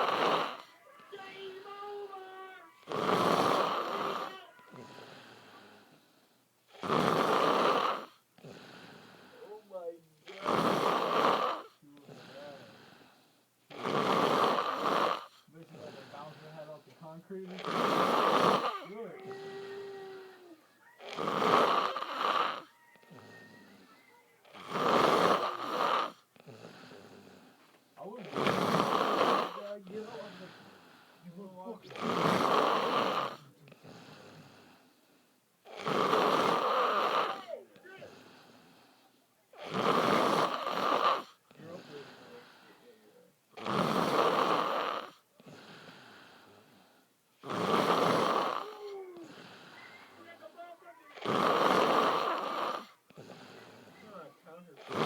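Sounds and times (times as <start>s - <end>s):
person snoring loudly: 0.0s - 2.2s, 2.8s - 6.0s, 6.7s - 9.3s, 10.3s - 13.0s, 13.7s - 16.4s, 17.5s - 27.5s, 28.1s - 31.2s, 31.9s - 34.8s, 35.7s - 38.9s, 39.6s - 42.7s, 43.6s - 46.8s, 47.4s - 49.8s, 51.1s - 53.9s, 54.8s - 55.0s
quiet breathing: 0.0s - 55.0s.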